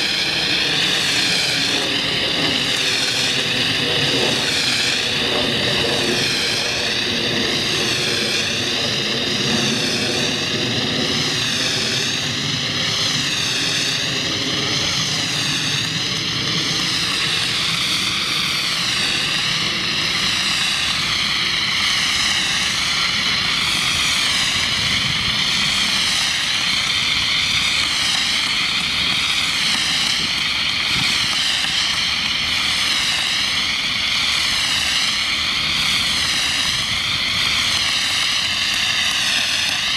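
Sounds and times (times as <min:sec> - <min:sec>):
drone propellers whining: 0:00.0 - 0:39.9
rushing noise: 0:00.0 - 0:39.9.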